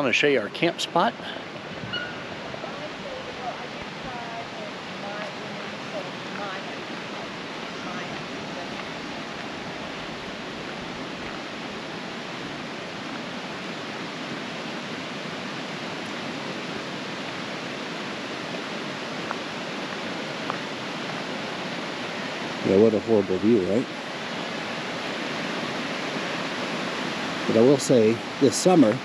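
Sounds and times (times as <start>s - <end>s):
fast-flowing creek water: 0.0s - 29.0s.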